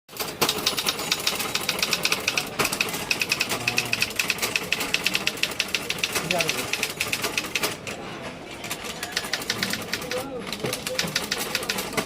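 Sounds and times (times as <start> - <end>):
typewriter typing: 0.1 - 8.0, 8.6 - 12.0.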